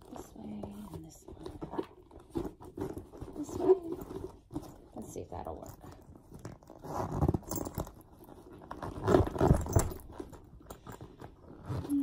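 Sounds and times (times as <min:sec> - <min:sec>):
bag rustling: 0:00.0 - 0:12.0.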